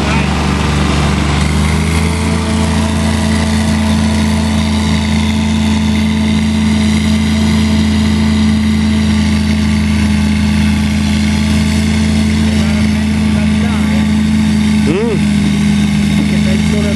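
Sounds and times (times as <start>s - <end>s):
mower engine humming: 0.0s - 16.9s.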